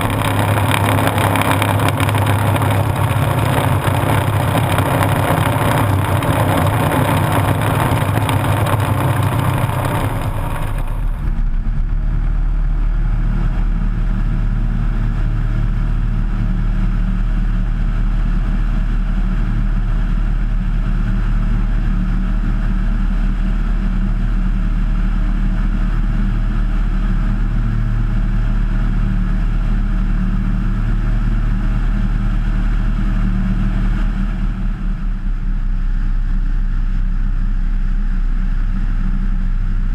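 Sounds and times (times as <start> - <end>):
floatplane engine and propeller: 0.0 - 39.9.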